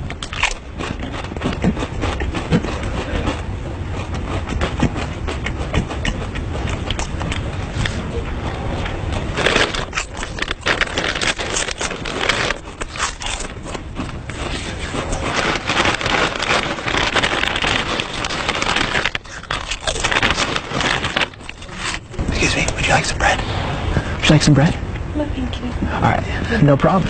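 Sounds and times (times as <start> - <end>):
person crunching food: 0.0 - 23.0
low rumble: 0.0 - 27.0.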